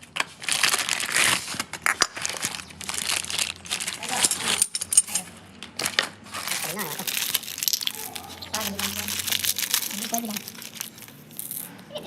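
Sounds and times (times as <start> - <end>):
material crinkling and rustling: 0.0 - 5.0, 5.7 - 11.7.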